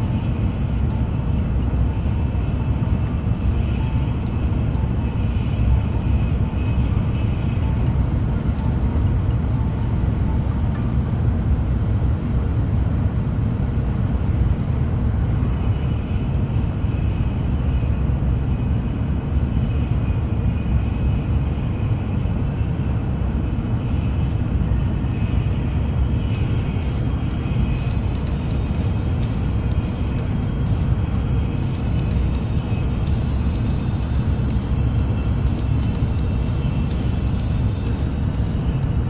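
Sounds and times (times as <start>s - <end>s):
faint high whine: 0.0s - 39.0s
train running low rumble: 0.0s - 39.0s.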